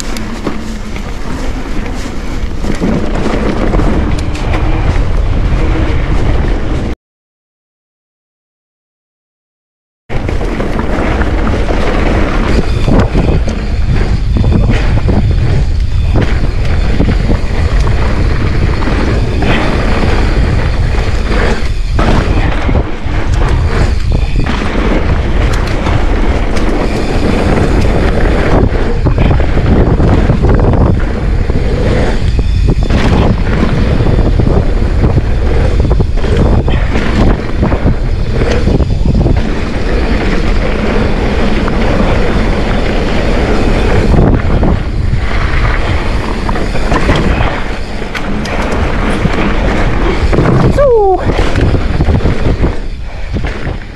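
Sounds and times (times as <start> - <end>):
bike rattling over bumps: 0.0 - 6.9, 10.1 - 53.9
wind buffeting microphone: 0.0 - 6.9, 10.1 - 53.9.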